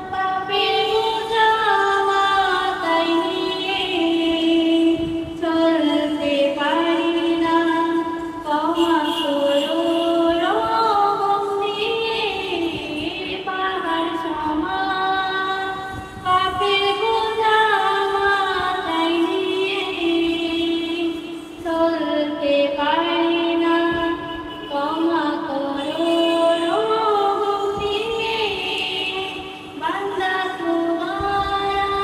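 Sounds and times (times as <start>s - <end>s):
woman singing into a microphone: 0.0s - 32.0s.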